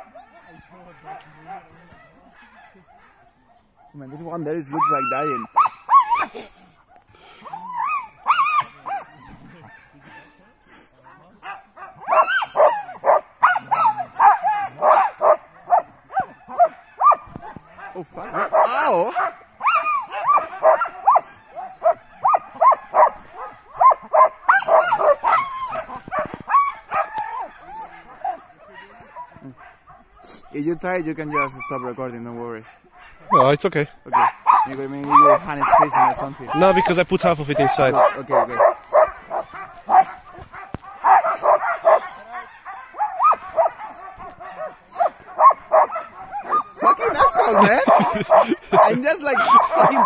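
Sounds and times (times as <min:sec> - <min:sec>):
dogs barking and yelping: 0:00.0 - 0:50.0.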